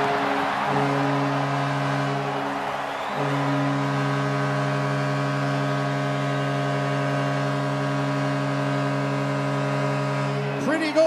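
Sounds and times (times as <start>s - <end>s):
arena goal horn: 0.0s - 11.0s
crowd cheering and clapping: 0.0s - 11.0s.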